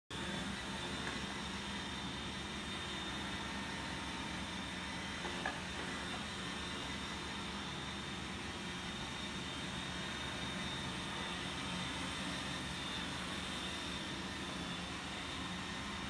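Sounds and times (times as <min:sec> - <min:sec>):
electric fans whirring: 0:00.1 - 0:16.0.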